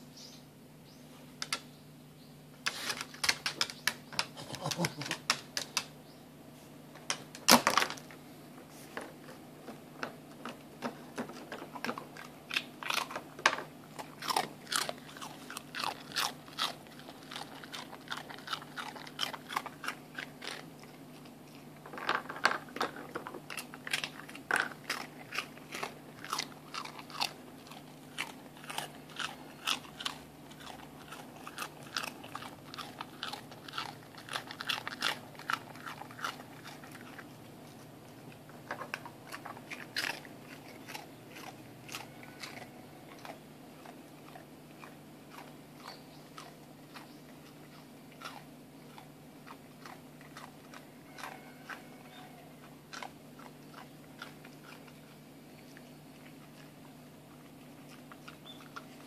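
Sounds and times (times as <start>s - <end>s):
dog crunching a rice cracker: 2.7s - 6.0s, 7.0s - 59.0s.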